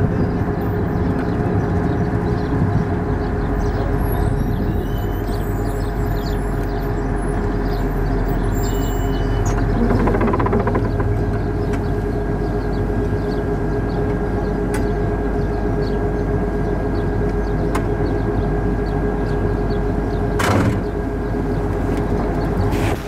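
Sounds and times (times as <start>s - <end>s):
constant whine: 0.0s - 23.0s
vehicle engine running: 0.0s - 23.0s.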